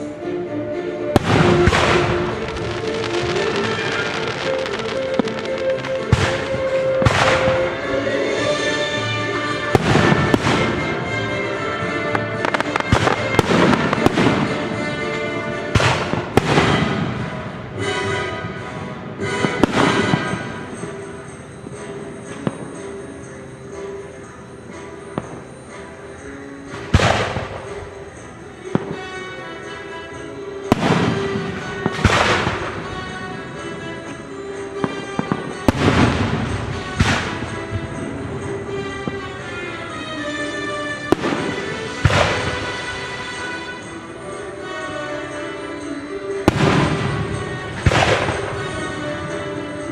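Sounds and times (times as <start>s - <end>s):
orchestral music: 0.0s - 49.9s
fireworks bangs and crackle: 1.1s - 24.3s, 25.0s - 49.9s.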